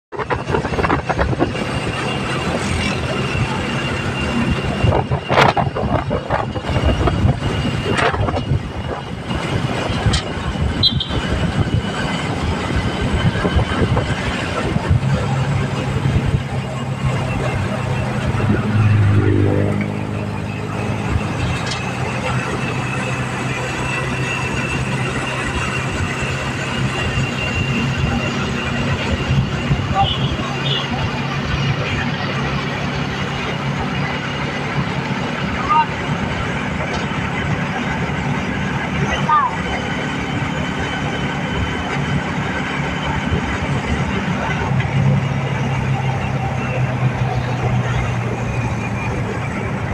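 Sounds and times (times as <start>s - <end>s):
road noise: 0.0s - 49.9s
high-pitched whine: 0.2s - 49.9s
motorcycle engine running: 0.2s - 49.9s.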